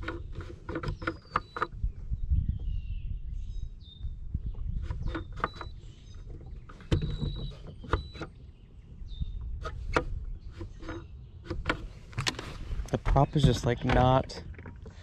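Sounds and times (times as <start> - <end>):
low wind: 0.0 - 15.0.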